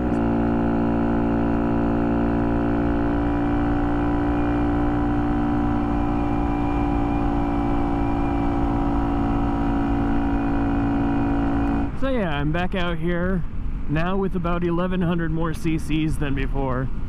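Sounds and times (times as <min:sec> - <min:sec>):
motorbike engine cruising: 0:00.0 - 0:17.0.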